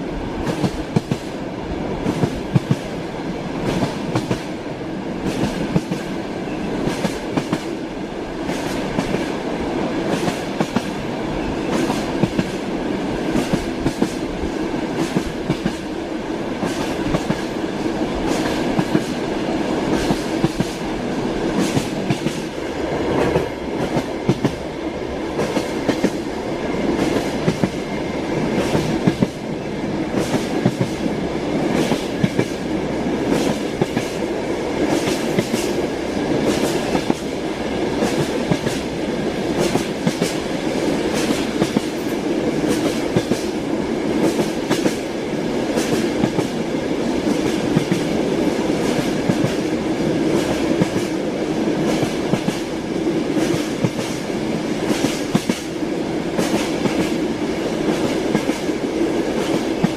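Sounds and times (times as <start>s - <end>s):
train wheels clattering on rails: 0.4s - 59.9s.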